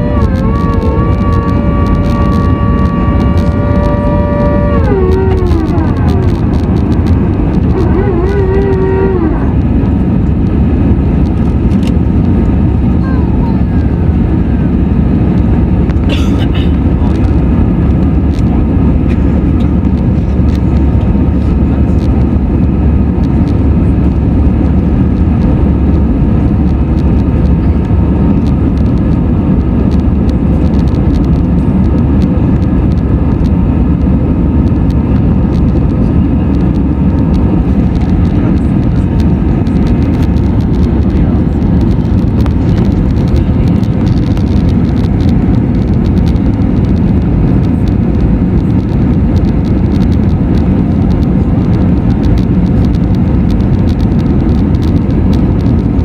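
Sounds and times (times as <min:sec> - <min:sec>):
faint steady hum: 0:00.0 - 0:56.0
jet engines deep rumble: 0:00.0 - 0:56.0.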